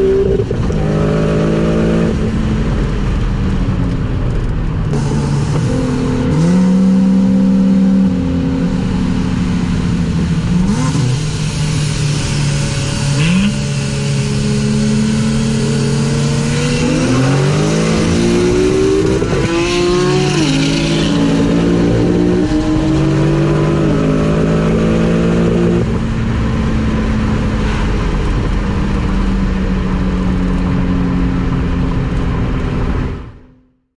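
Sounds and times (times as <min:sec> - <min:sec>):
car engine under load: 0:00.0 - 0:33.6
wind and road noise: 0:00.0 - 0:33.8.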